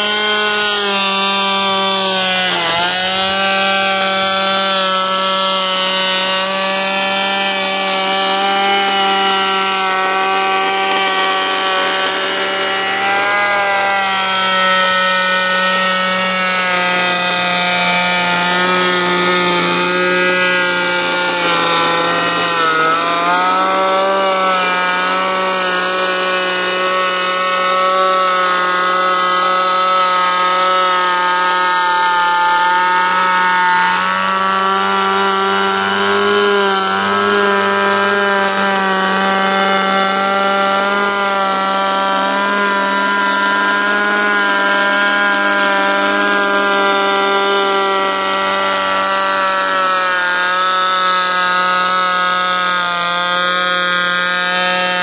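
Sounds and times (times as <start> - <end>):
electric planer motor running: 0.0 - 55.0.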